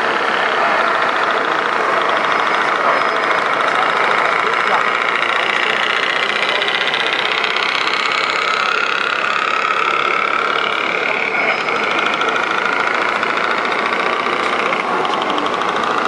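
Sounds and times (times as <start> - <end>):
engine-like rattle: 0.0 - 16.0
model truck motor whine: 0.0 - 16.0.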